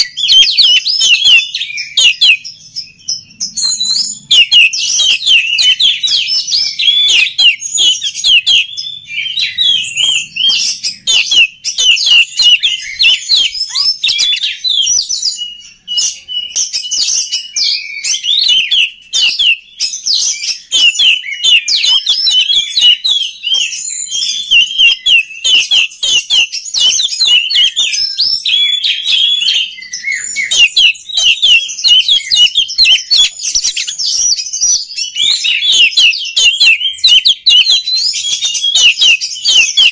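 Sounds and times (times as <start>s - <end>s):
songbird chirps and whistles: 0.0s - 39.9s.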